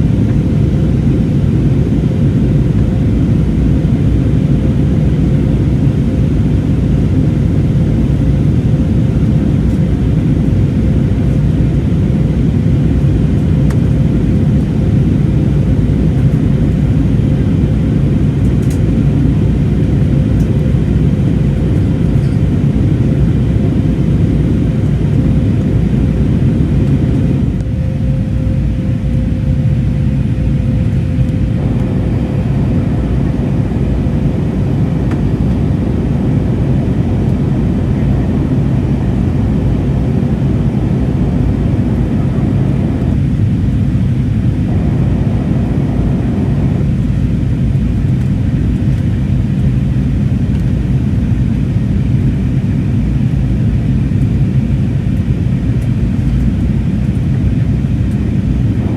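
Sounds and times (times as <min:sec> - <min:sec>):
airflow rush in aircraft cabin: 0:00.0 - 0:58.9
jet engine low hum: 0:00.0 - 0:58.9.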